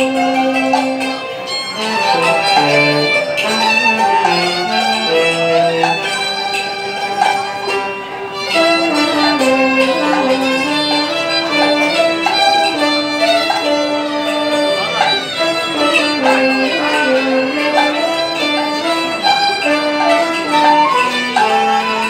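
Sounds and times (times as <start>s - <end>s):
bamboo flute: 0.0s - 22.0s
bowed fiddle melody: 0.0s - 22.0s
hammered dulcimer: 0.0s - 22.0s
saxophone: 0.0s - 22.0s.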